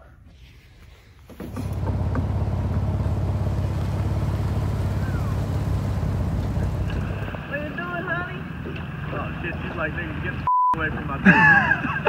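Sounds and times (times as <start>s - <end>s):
engine droning: 1.3s - 12.0s.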